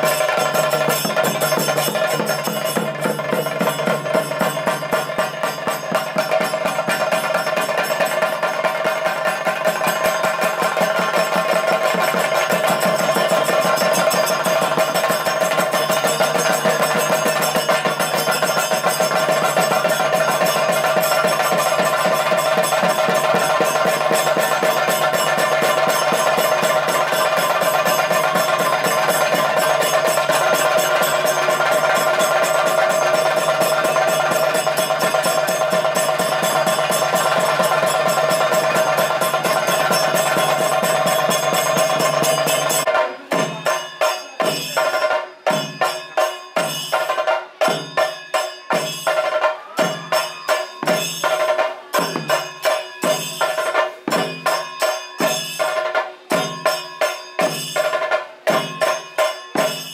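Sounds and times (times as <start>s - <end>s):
fast drum strokes: 0.0s - 59.9s.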